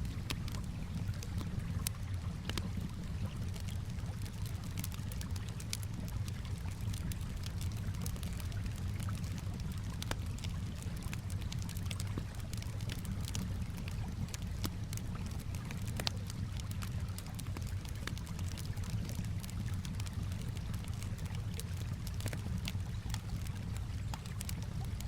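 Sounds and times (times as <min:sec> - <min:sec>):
calm water: 0:00.0 - 0:25.0
campfire crackling and popping: 0:00.0 - 0:25.0.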